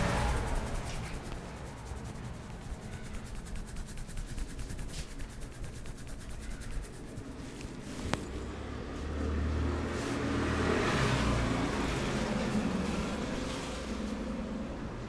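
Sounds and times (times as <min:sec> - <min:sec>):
vehicle engine hum and road noise: 0:00.0 - 0:15.0.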